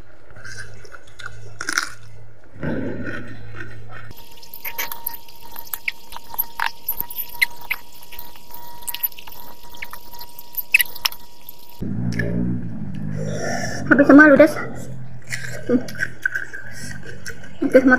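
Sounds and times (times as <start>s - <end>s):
wet mouth eating sounds: 0.3s - 13.4s, 14.7s - 17.9s.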